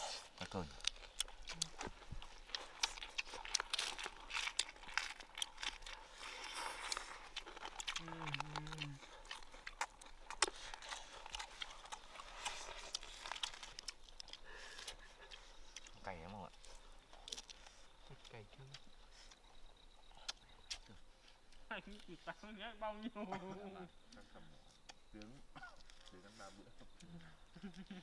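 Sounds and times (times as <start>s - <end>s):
person chewing crunchy ribs: 0.0s - 22.1s, 24.6s - 28.0s.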